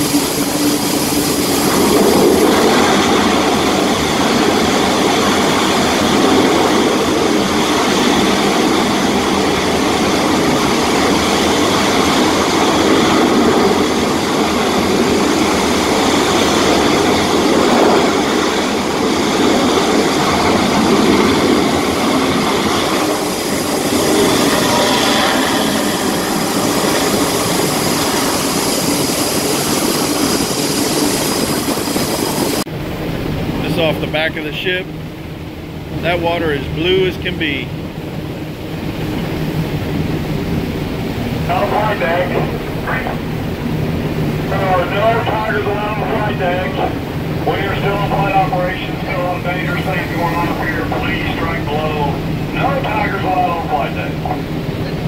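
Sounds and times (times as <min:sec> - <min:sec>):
high engine whine: 0:00.0 - 0:55.0
jet engines roaring: 0:00.0 - 0:55.0.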